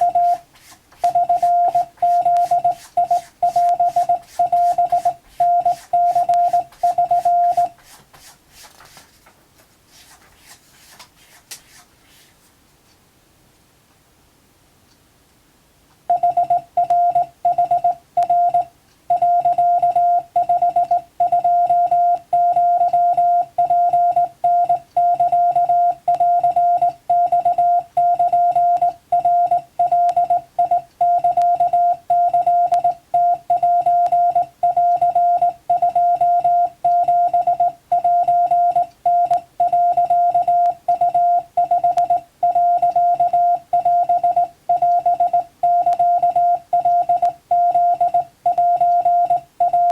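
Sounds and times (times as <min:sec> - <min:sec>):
morse code beeps: 0:00.0 - 0:00.4, 0:01.0 - 0:07.8, 0:16.1 - 0:49.9.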